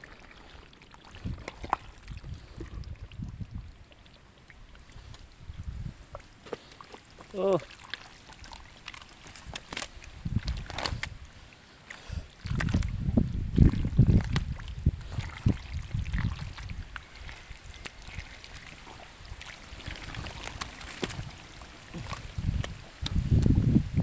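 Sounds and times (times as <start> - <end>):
muddy water splashing: 0.0 - 24.0.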